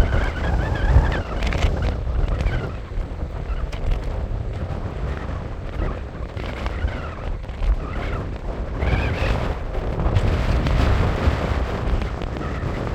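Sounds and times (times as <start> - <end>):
strong wind buffeting microphone: 0.0 - 12.9.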